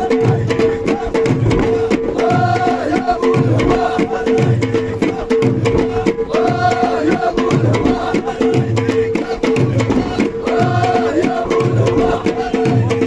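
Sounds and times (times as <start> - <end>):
fast percussion beat: 0.0 - 13.0
men's chorus singing: 0.0 - 13.0.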